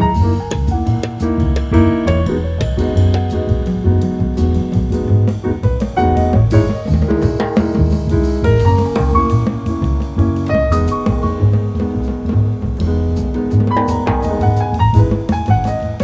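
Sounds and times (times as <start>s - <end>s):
drum kit: 0.0s - 16.0s
jazz piano: 0.0s - 16.0s
walking bass line: 0.0s - 16.0s.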